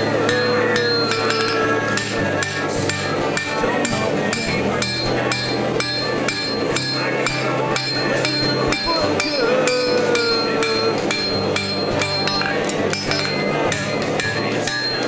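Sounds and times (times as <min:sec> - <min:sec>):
hammer ringing on steel: 0:00.0 - 0:15.0.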